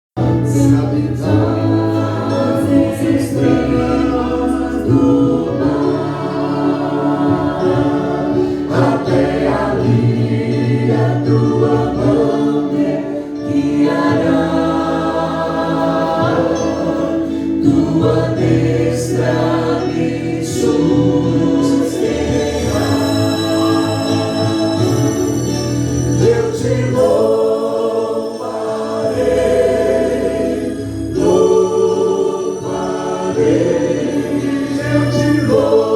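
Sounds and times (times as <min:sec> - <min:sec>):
group singing in harmony: 0:00.2 - 0:35.9.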